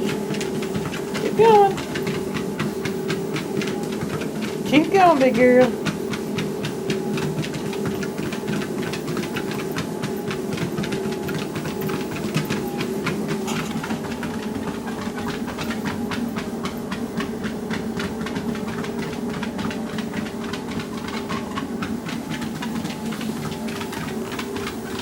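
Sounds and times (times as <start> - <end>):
dog paws striking treadmill belt: 0.0 - 25.0
treadmill humming: 0.0 - 25.0.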